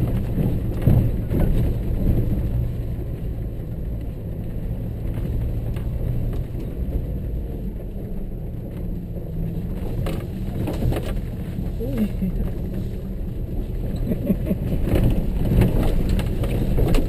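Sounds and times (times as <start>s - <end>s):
vehicle engine running: 0.0s - 17.0s
vehicle knocks and rattles: 0.0s - 17.0s.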